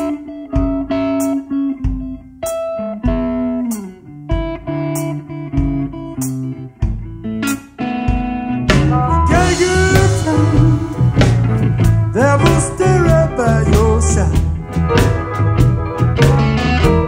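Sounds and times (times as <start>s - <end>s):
electric guitar picking: 0.0s - 17.0s
low bass notes: 3.0s - 17.0s.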